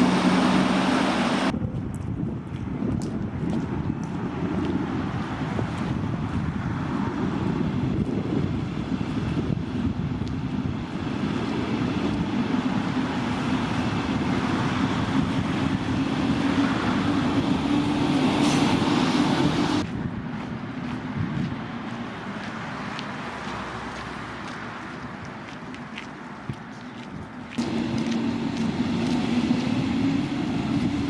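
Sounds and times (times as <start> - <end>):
train rumbling past: 0.0 - 1.6, 2.2 - 24.6, 27.6 - 31.0.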